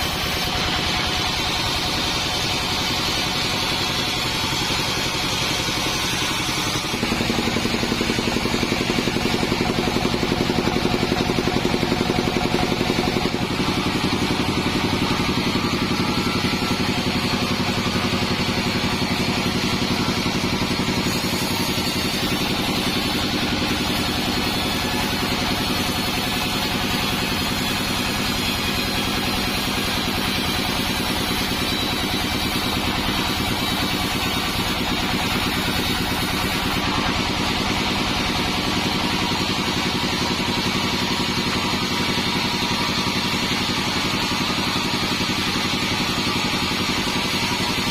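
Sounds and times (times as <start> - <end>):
band sawmill running: 0.0 - 47.9.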